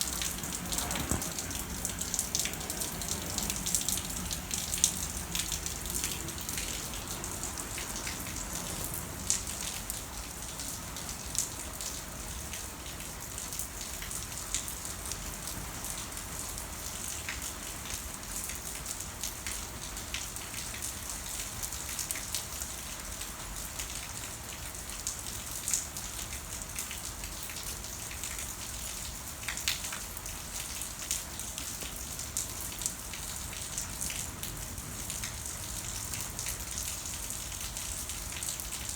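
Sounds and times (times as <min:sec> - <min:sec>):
sharp raindrops hitting surface: 0:00.0 - 0:38.9
steady rain falling: 0:00.0 - 0:38.9.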